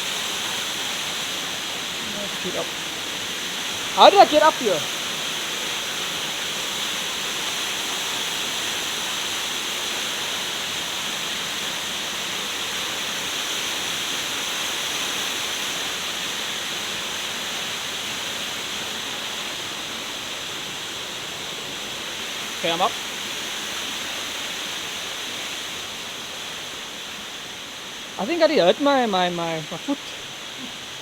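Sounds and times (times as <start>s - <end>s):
waterfall and river rushing: 0.0s - 31.0s.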